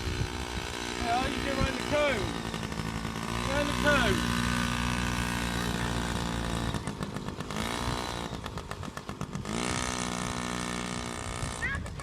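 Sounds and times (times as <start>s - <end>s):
small two-stroke engine revving: 0.0s - 12.0s.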